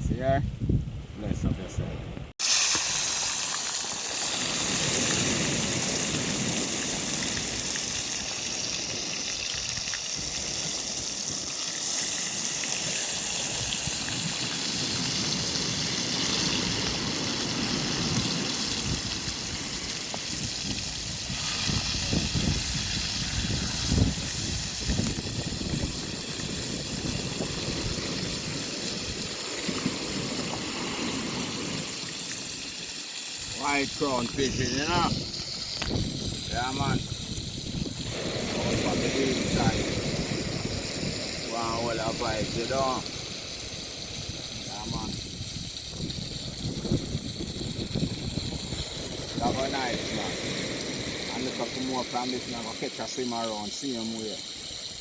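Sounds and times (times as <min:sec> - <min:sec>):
wind: 0:00.0 - 0:55.0
frying in hot oil: 0:02.4 - 0:55.0.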